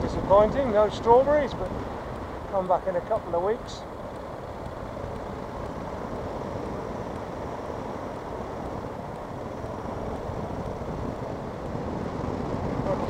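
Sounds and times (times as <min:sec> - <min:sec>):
motorcycle engine and road noise: 0:00.0 - 0:13.0
wind rushing over microphone: 0:00.0 - 0:13.0.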